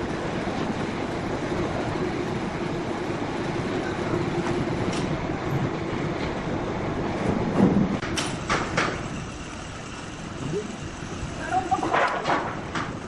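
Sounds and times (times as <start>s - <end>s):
sawmill machinery rumbling: 0.0s - 13.0s.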